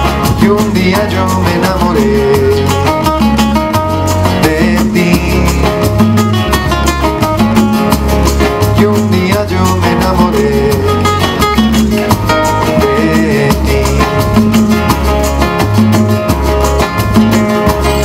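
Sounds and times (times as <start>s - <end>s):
flamenco acoustic guitars: 0.0s - 18.0s.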